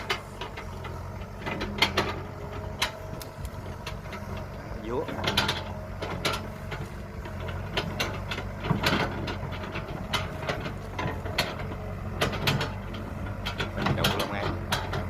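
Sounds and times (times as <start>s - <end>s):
excavator diesel engine running: 0.0s - 15.0s
metallic clanks and knocks: 0.0s - 15.0s.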